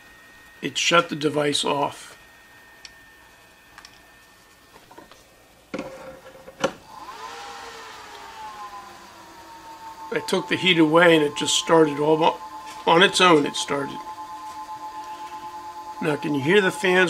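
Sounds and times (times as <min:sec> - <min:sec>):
cooling fans whining: 0:00.0 - 0:17.0.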